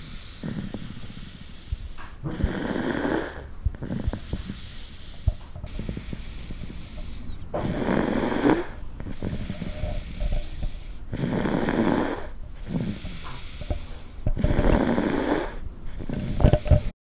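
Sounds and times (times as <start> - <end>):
toddler snoring loudly: 0.0 - 16.9
quiet breaths: 0.0 - 17.0.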